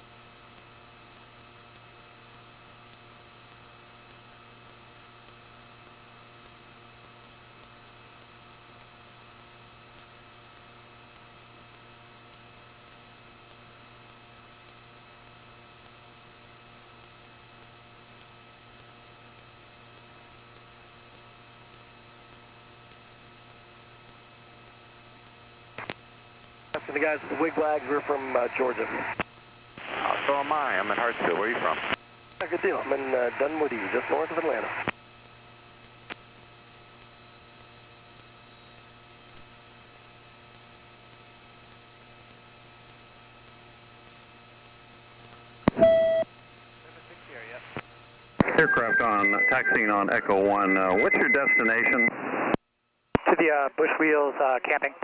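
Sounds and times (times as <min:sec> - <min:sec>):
electrical hum and hiss: 0:00.0 - 0:52.6, 0:53.2 - 0:55.0.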